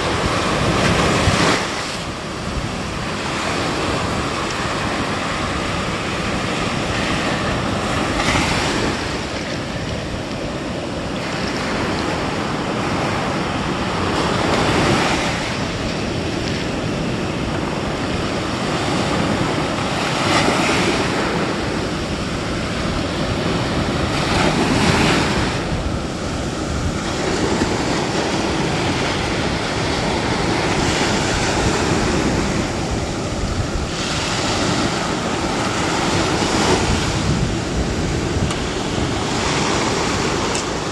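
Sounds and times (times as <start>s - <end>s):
sea waves breaking on beach: 0.0s - 40.9s.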